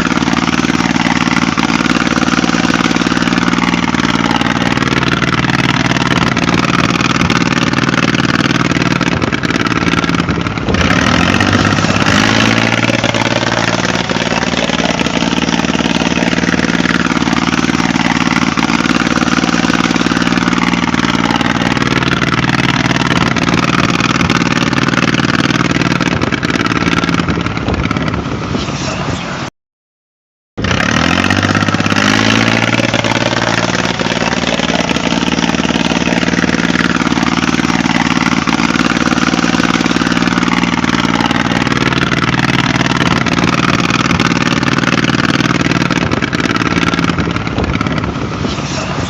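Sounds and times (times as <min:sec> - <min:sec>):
motor running steadily: 0:00.0 - 0:28.4, 0:30.6 - 0:49.0.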